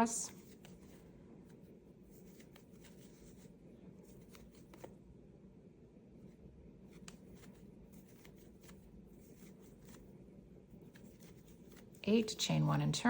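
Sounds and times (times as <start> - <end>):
crochet hook scratching yarn: 0.0 - 4.9, 6.8 - 13.0
low room hum: 0.0 - 13.0.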